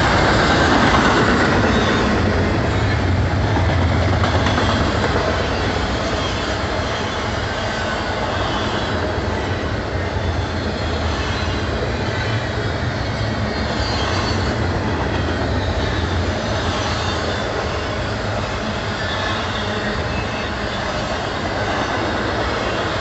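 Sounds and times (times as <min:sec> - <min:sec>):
steel train wheels rumbling on rail: 0:00.0 - 0:23.0.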